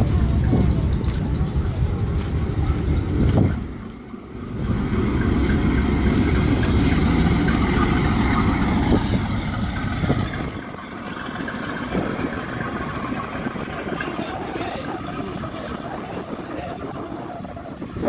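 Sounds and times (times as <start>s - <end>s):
locomotive engine rumbling: 0.0s - 18.0s.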